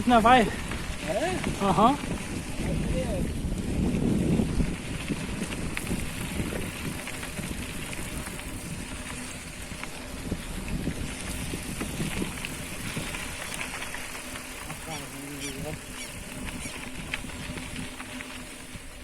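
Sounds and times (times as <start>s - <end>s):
vehicle rumbling on rough road: 0.0s - 19.0s
wind on microphone: 0.0s - 19.0s.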